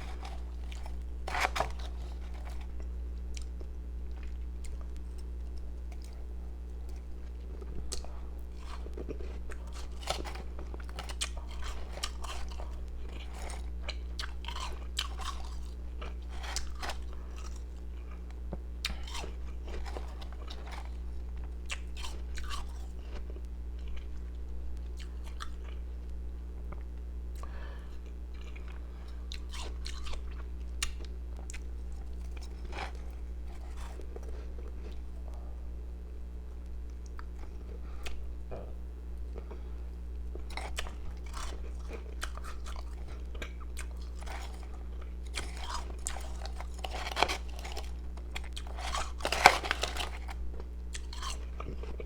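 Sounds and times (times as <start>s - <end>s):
person chewing ice: 0.0s - 24.4s, 25.0s - 25.8s, 26.7s - 35.4s, 37.1s - 52.0s
steady low hum: 0.0s - 52.0s.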